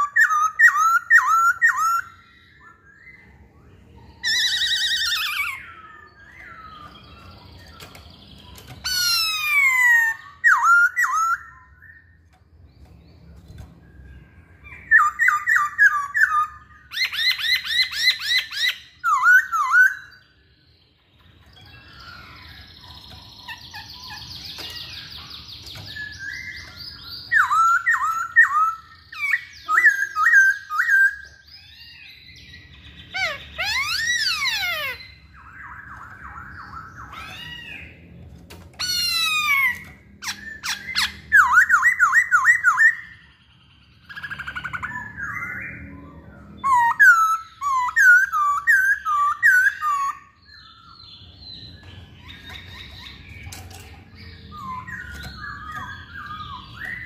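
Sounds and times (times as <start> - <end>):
bird singing whistled phrases: 0.0 - 12.2, 13.9 - 20.2, 21.6 - 38.0, 38.8 - 43.4, 44.0 - 53.5, 54.4 - 57.0.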